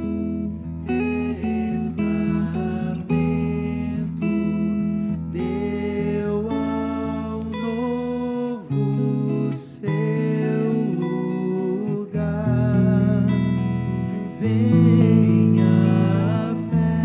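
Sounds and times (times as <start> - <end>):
slow acoustic guitar music: 0.0 - 17.0.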